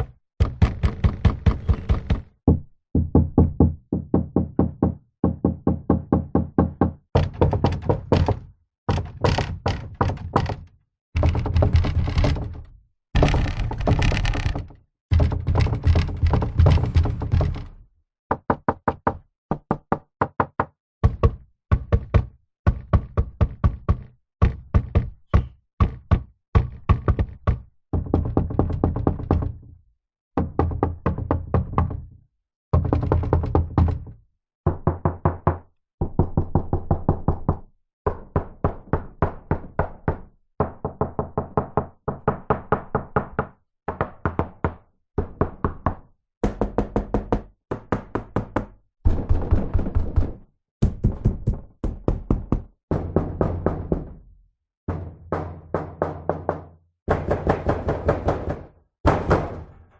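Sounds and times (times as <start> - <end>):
knocking on a door: 0.0 - 29.8, 30.4 - 59.9.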